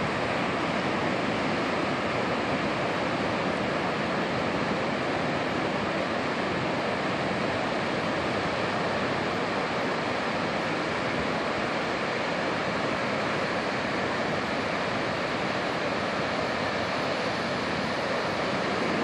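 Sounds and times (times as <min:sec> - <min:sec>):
ocean surf roaring: 0:00.0 - 0:19.0.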